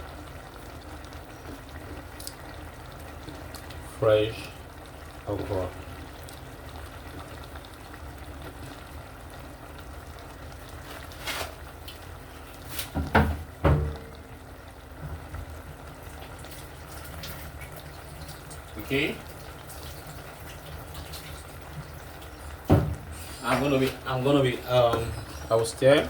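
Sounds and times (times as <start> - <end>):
soup simmering and bubbling: 0.0 - 26.0.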